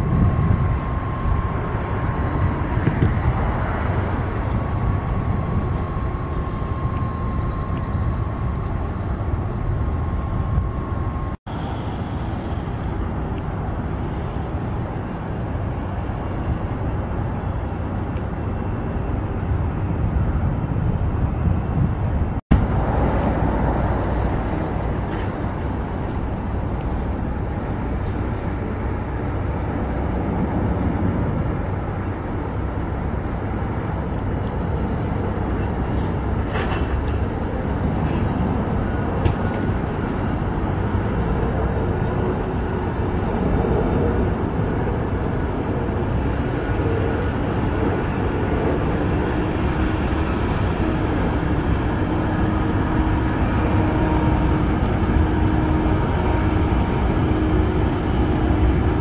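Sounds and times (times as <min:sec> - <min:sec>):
airliner rolling on ground: 0:00.0 - 0:59.0
jet engines rumbling and whining: 0:00.0 - 0:59.0.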